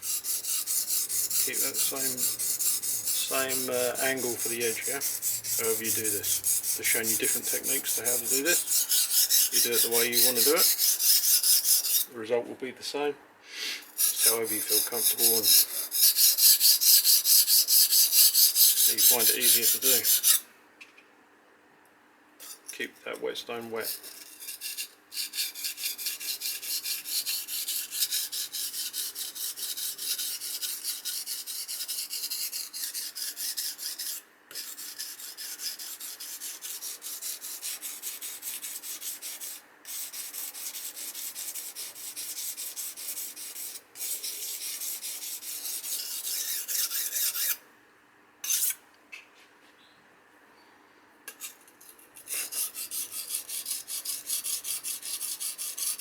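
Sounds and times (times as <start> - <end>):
knife scraping on whetstone: 0.0 - 12.1, 13.8 - 20.4, 23.8 - 47.6, 48.4 - 48.8, 51.3 - 56.0.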